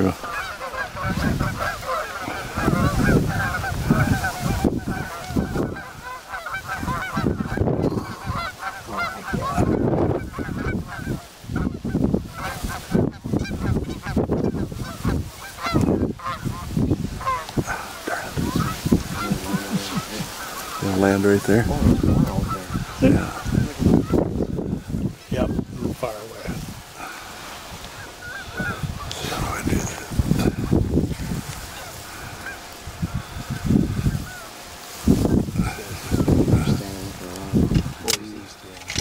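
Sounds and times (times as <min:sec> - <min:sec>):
geese honking: 0:00.0 - 0:39.0
wind buffeting microphone: 0:00.0 - 0:39.0.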